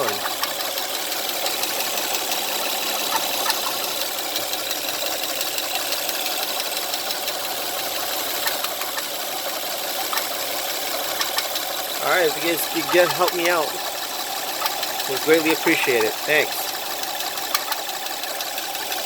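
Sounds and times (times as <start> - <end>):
car engine running: 0.0 - 19.0
loud steady engine ticking: 0.0 - 19.0.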